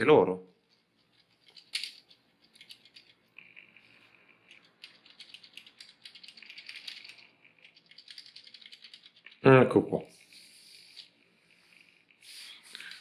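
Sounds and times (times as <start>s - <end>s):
toy car clicking rattle: 0.6s - 9.4s, 10.1s - 11.2s, 12.2s - 13.0s.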